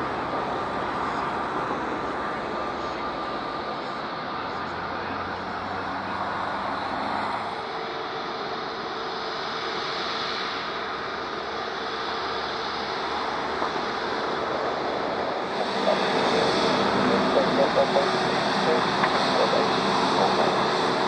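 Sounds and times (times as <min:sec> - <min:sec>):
jet engines running at taxi power: 0:00.0 - 0:21.0.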